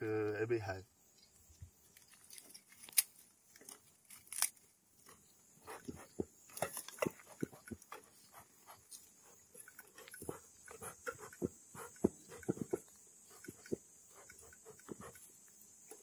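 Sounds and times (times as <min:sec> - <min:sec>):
dry fuel rustling and crackling: 0:01.6 - 0:16.0.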